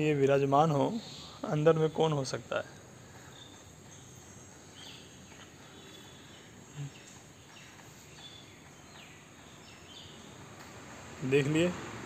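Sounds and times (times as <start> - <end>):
faint bird chirps: 0.0 - 10.6.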